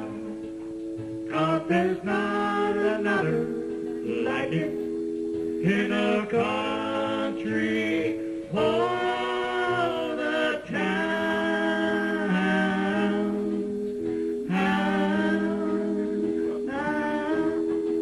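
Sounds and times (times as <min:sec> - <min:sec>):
keyboard chords: 0:00.0 - 0:18.0
man singing into microphone: 0:01.2 - 0:04.9, 0:05.6 - 0:18.0.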